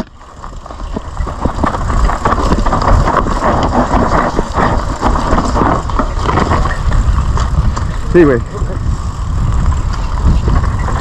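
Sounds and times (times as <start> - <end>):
bike rattling: 0.0 - 11.0
tyres running over dirt: 0.0 - 11.0
wind on microphone: 0.0 - 11.0.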